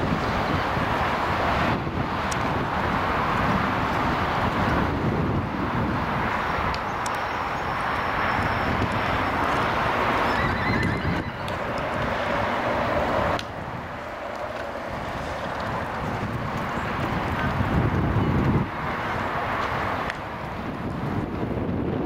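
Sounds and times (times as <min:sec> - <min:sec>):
hooves cantering on sand: 0:00.0 - 0:22.0
outdoor noise rush: 0:00.0 - 0:22.0.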